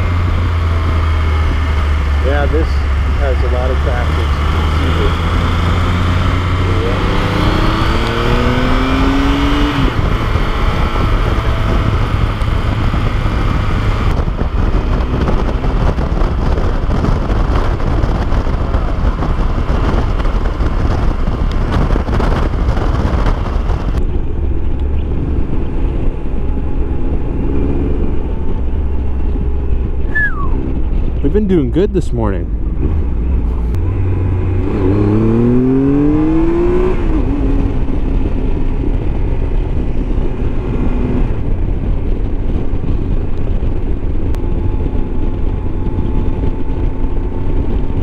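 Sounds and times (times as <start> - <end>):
motorcycle engine drone: 0.0 - 48.0
wind rushing over microphone: 0.0 - 48.0.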